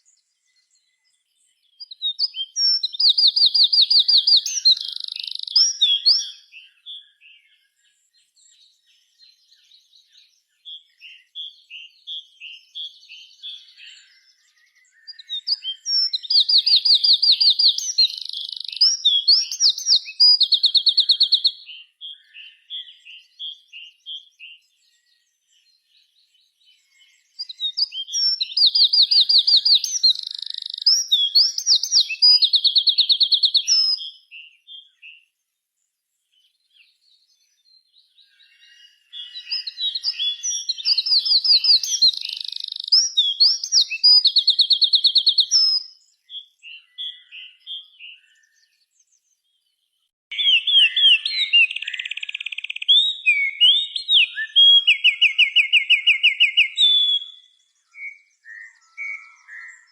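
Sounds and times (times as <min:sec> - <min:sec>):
bird chirps and trills: 0:00.0 - 0:35.4, 0:36.3 - 0:59.9.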